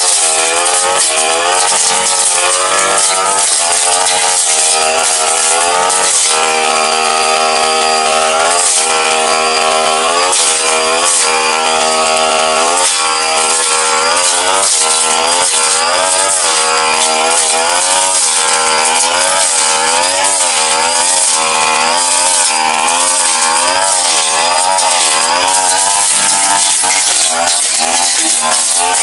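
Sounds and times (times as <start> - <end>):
brush cutter engine cutting brush: 0.0 - 29.0.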